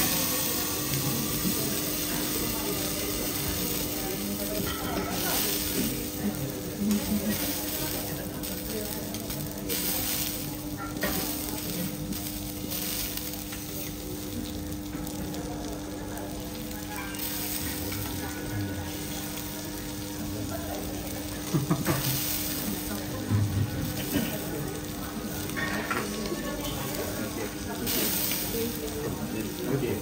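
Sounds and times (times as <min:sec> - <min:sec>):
food sizzling on griddle: 0:00.0 - 0:30.0.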